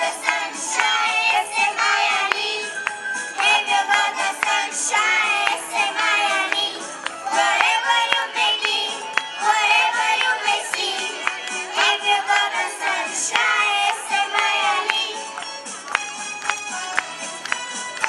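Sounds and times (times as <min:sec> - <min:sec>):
young children singing: 0:00.0 - 0:02.7, 0:03.4 - 0:15.2
musical accompaniment with beat: 0:00.0 - 0:18.0.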